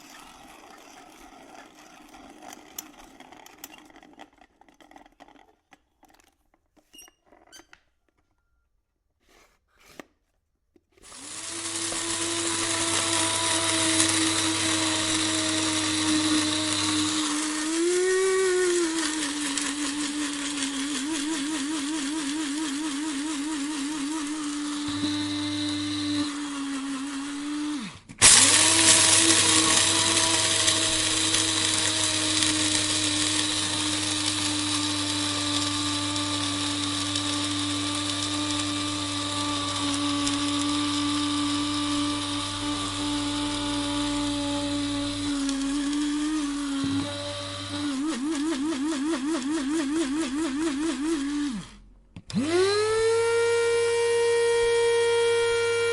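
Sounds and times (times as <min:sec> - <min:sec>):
electric coffee grinder whining: 0:00.0 - 0:04.6, 0:11.0 - 0:55.9.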